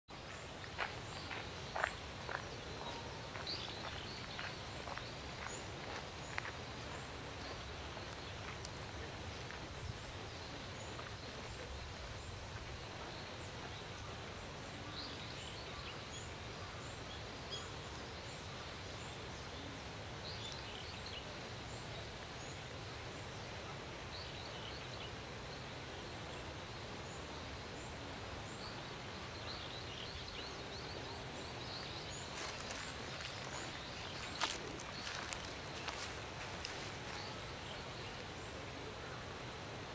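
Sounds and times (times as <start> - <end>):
outdoor background noise: 0.1 - 39.9.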